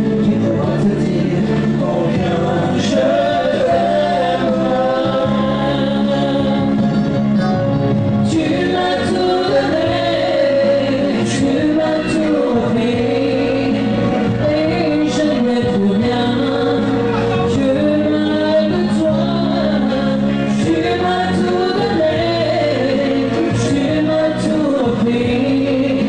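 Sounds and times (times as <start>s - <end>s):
backing voices: 0.0s - 26.0s
electronic keyboard: 0.0s - 26.0s
sustained bass notes: 0.0s - 26.0s
woman singing lead: 0.1s - 7.6s, 8.2s - 26.0s.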